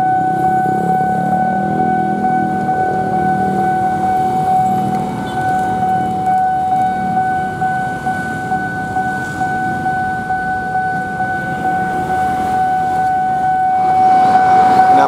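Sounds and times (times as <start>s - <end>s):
level crossing alarm tone: 0.0s - 15.0s
motorbike engines rumbling: 0.0s - 15.0s.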